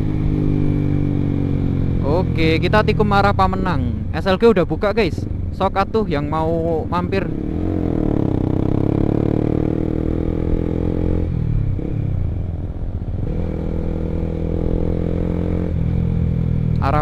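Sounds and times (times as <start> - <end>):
motorcycle engine running: 0.0 - 4.4, 6.6 - 17.0.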